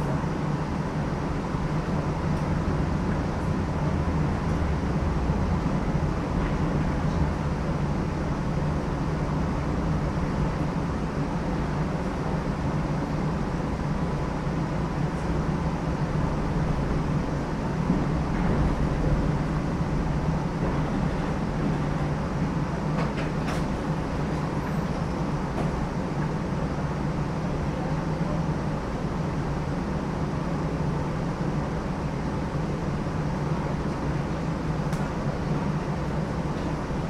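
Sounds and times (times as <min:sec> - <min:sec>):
streetcar rumbling on rails: 0:00.0 - 0:37.0.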